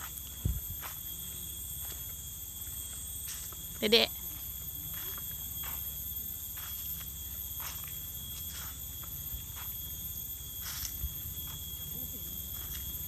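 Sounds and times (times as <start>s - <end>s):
forest insects droning: 0.0s - 13.0s.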